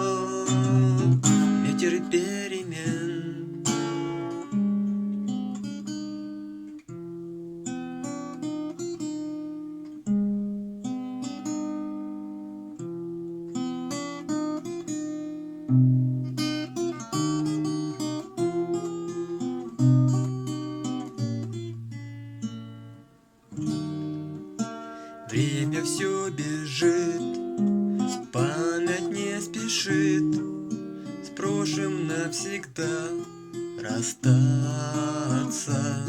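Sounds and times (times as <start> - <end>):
acoustic guitar picking chords: 0.0 - 36.0.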